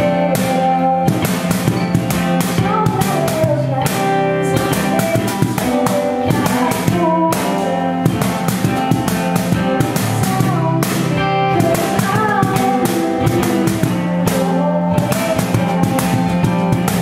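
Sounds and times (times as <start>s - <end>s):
acoustic guitar strumming: 0.0s - 17.0s
cajon beat: 0.0s - 17.0s.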